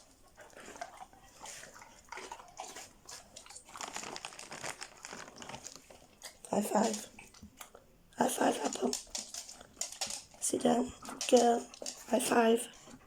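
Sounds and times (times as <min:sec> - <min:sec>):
dog chewing a treat: 0:00.0 - 0:13.0.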